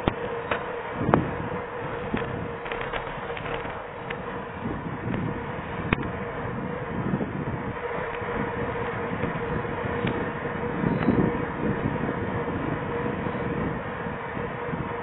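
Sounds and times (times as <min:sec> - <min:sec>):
bike tyre noise: 0:00.0 - 0:15.0
rushing wind: 0:00.0 - 0:15.0.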